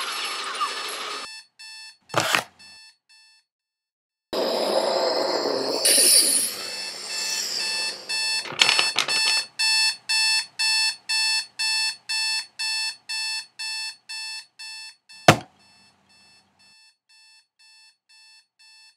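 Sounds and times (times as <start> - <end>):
alarm clock beeping: 0.1 - 3.4, 4.4 - 18.9.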